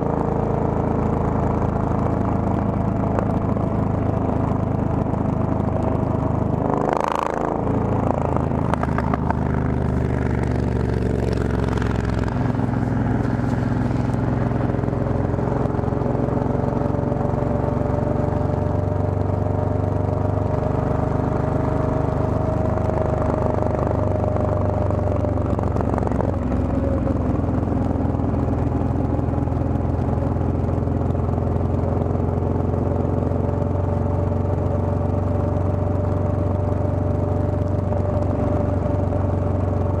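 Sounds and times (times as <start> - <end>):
motorcycle engine cruising: 0.0 - 40.0.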